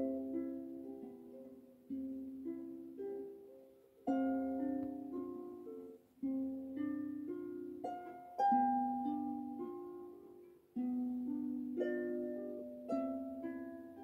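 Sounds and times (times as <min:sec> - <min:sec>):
harp playing slow piece: 0:00.0 - 0:14.0.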